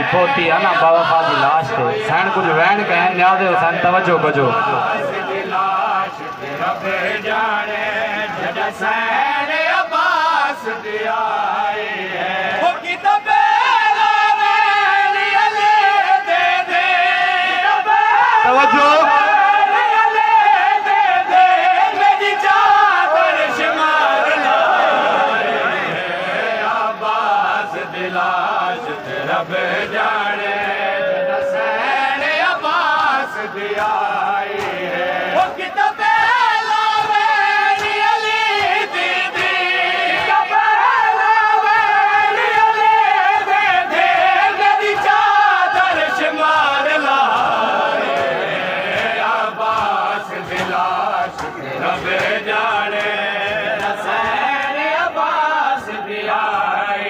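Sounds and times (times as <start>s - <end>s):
crowd of men chanting: 0.0s - 57.0s
man singing through loudspeaker: 0.0s - 57.0s.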